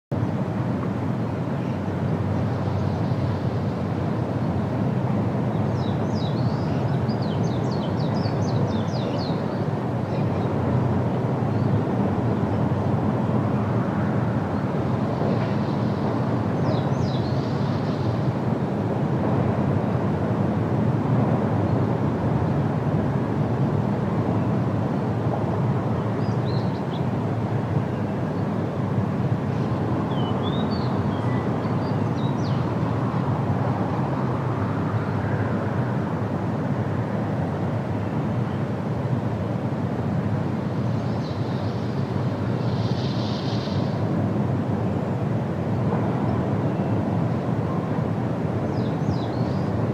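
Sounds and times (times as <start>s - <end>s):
wind rushing through trees: 0.1s - 49.9s.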